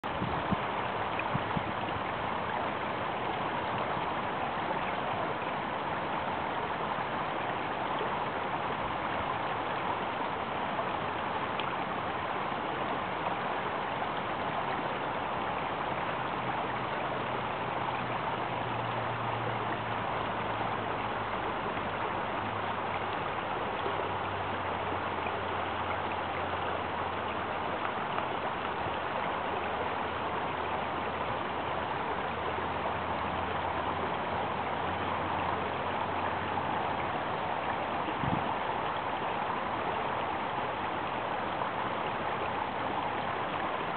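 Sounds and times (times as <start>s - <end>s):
creek flowing over stones: 0.0s - 43.9s.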